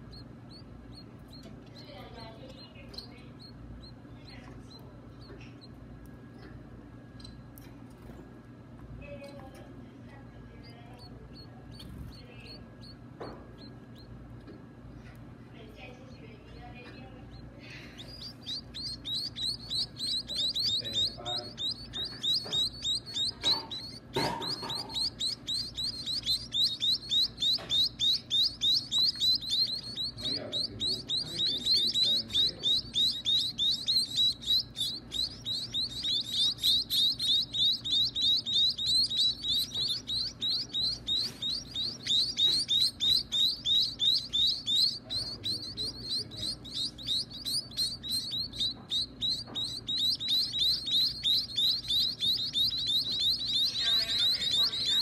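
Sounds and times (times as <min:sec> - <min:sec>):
nestling birds begging chirps: 0:00.0 - 0:55.0.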